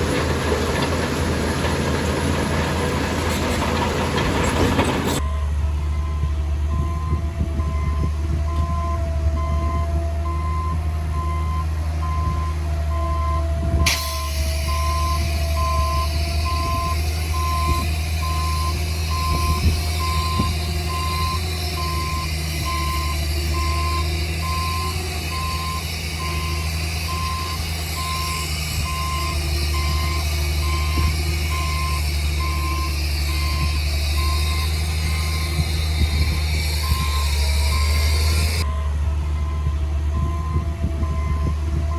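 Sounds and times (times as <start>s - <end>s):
diesel engine drone: 0.0s - 41.9s
reversing alarm beeping: 5.1s - 41.9s.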